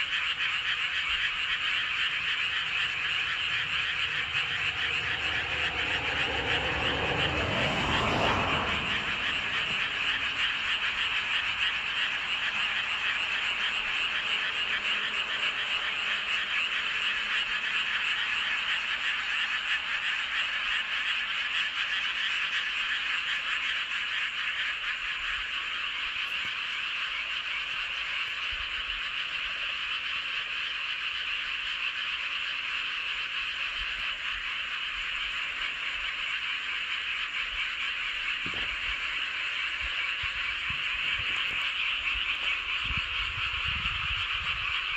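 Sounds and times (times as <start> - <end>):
frogs croaking in chorus: 0.0 - 44.9.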